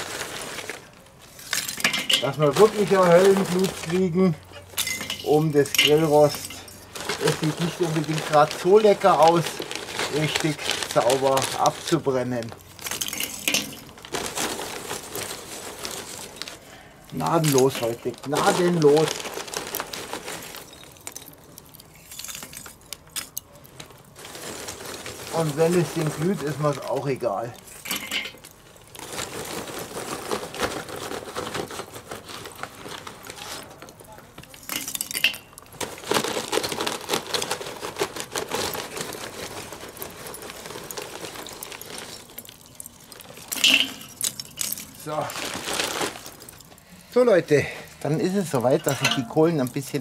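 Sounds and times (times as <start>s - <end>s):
charcoal lumps clinking: 0.0s - 50.0s
paper bag crinkling: 0.0s - 50.0s.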